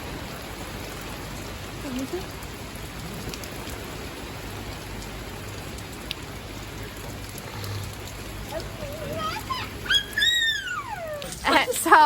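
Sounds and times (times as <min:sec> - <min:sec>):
heavy rain pouring: 0:00.0 - 0:12.0
raindrop ticks: 0:00.8 - 0:12.0.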